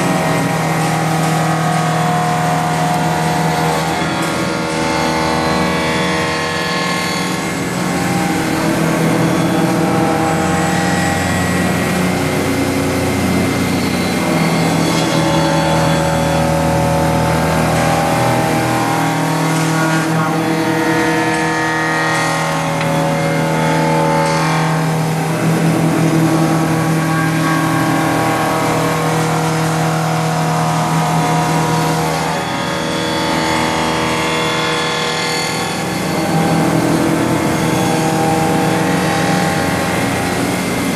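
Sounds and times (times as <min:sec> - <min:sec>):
milling machine cutting: 0:00.0 - 0:40.9.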